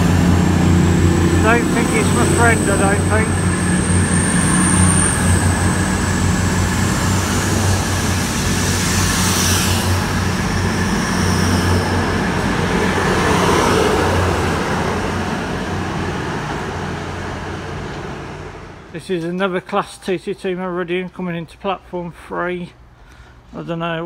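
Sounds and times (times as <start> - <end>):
train engine hum: 0.0 - 19.3.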